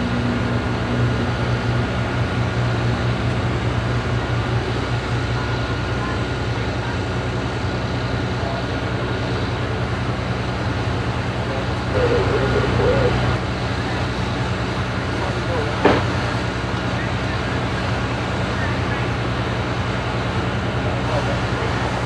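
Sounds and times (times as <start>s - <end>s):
large engine droning: 0.0s - 22.0s.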